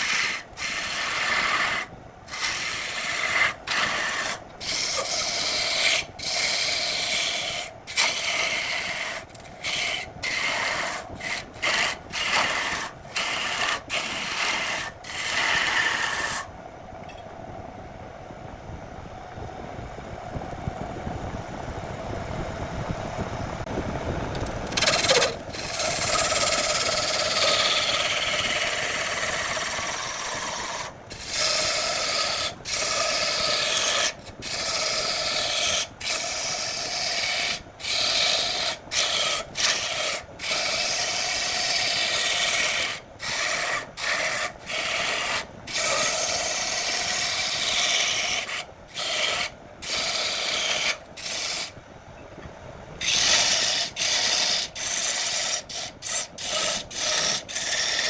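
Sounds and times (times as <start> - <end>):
lathe humming: 0.0 - 16.5, 24.6 - 51.7, 53.0 - 58.0
tool scraping wood on lathe: 0.0 - 16.5, 24.7 - 51.7, 53.0 - 58.0.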